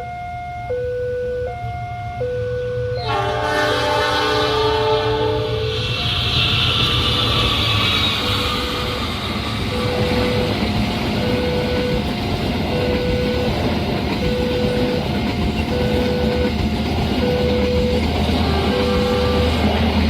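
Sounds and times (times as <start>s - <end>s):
train passing: 1.6s - 20.0s.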